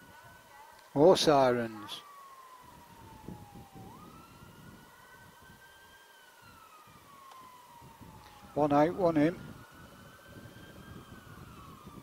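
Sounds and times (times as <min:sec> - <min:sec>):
faint siren wailing: 0:00.0 - 0:12.0.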